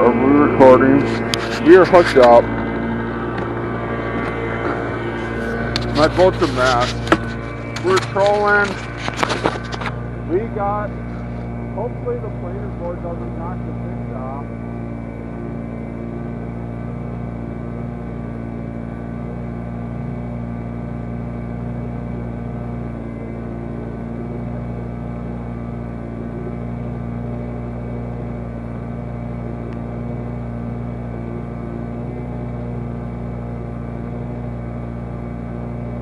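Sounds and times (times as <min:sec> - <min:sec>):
boat motor humming: 0:00.0 - 0:36.0.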